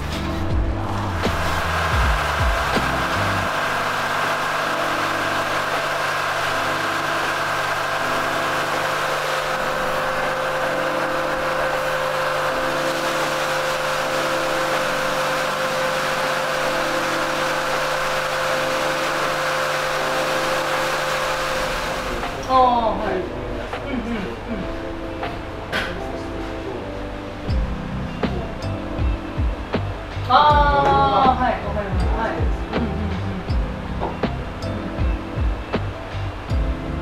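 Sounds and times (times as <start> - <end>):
droning background music: 0.0 - 37.0.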